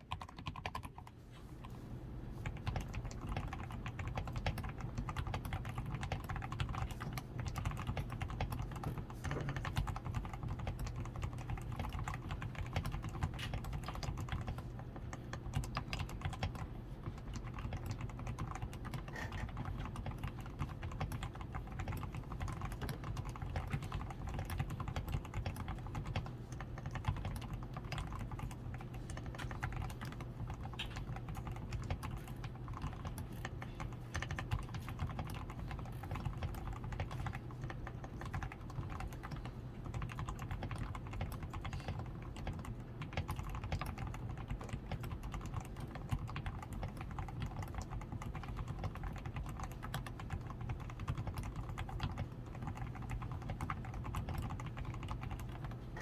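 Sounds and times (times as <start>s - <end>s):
mechanical keyboard typing: 0.0s - 1.2s, 2.4s - 56.0s.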